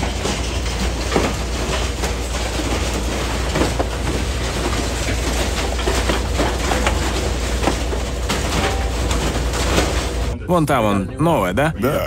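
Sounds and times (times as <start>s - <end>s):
metallic clanks and rattles: 0.0s - 10.4s
machinery rumbling: 0.0s - 12.0s.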